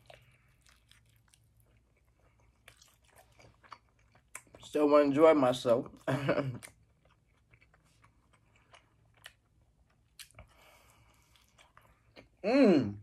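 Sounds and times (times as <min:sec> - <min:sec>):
close chewing: 0:00.0 - 0:04.8, 0:05.8 - 0:12.4.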